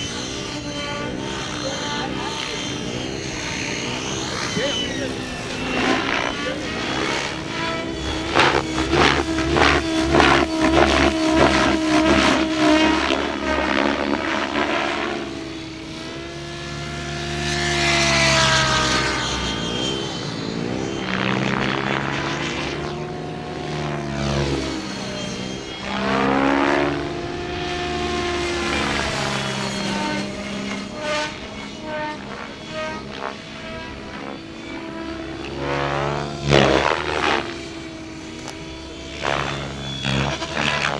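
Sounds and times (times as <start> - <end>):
model helicopter rotor beating: 0.0 - 40.9
model helicopter whine: 0.0 - 40.9.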